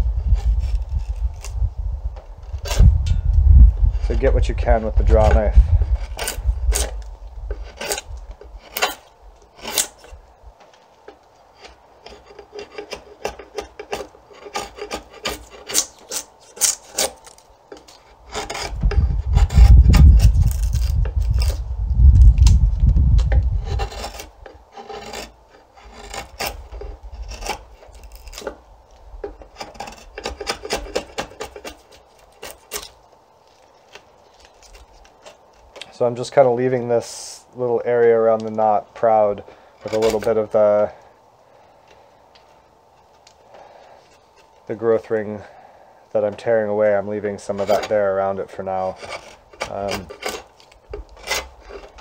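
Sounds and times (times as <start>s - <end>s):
draw knife shaving wood: 0.1s - 3.0s, 3.8s - 36.0s, 38.4s - 41.0s, 46.2s - 52.0s.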